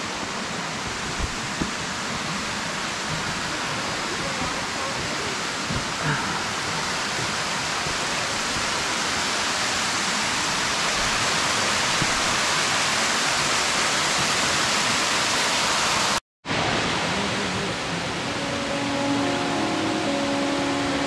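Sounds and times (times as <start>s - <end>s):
waterfall hiss: 0.0s - 21.0s.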